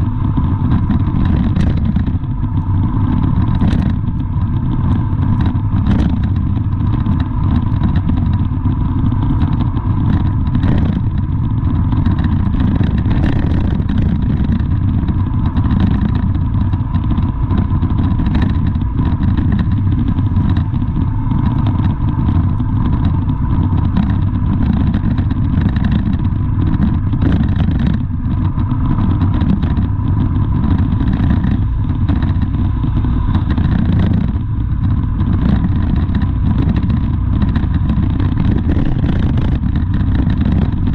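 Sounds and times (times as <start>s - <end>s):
engine and road rumble: 0.0s - 40.9s
light clatter: 0.0s - 40.9s
thin steady whine: 0.0s - 40.9s.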